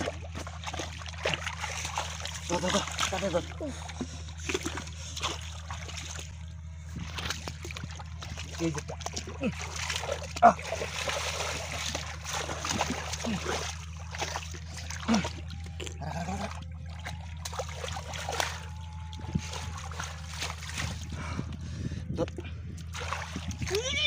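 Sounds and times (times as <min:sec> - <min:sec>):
hands splashing in muddy water: 0:00.0 - 0:21.2, 0:22.8 - 0:23.8
steady low hum: 0:00.0 - 0:24.0
water trickling and sloshing: 0:00.0 - 0:24.0.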